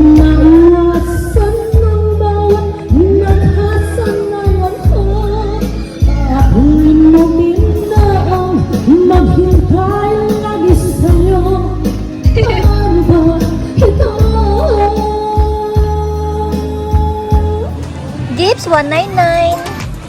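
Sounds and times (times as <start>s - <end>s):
woman singing pop song: 0.0s - 17.8s.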